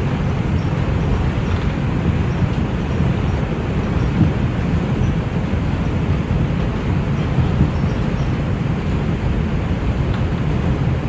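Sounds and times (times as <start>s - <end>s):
subway car wheels rumbling on rails: 0.0s - 11.0s.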